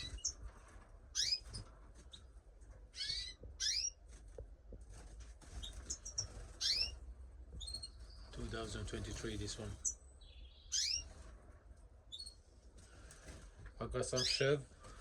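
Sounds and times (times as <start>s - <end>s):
canaries and finches chirping: 0.0s - 15.0s.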